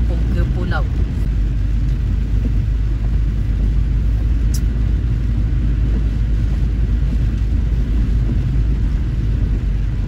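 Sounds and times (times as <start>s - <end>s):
car rumbling on wet road: 0.0s - 10.0s.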